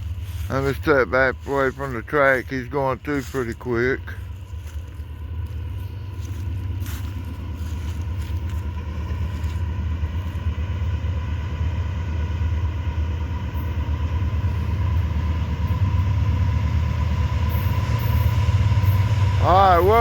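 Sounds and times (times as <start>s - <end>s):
freight train passing: 0.0s - 20.0s.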